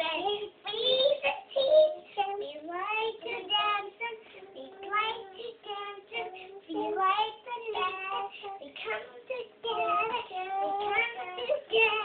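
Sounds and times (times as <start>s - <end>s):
young child singing: 0.0s - 12.0s.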